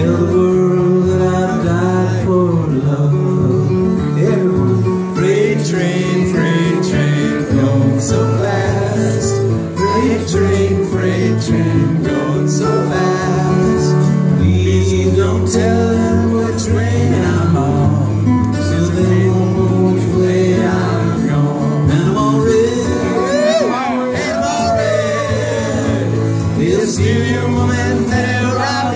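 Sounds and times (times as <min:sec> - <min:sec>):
acoustic guitar playing: 0:00.0 - 0:28.9.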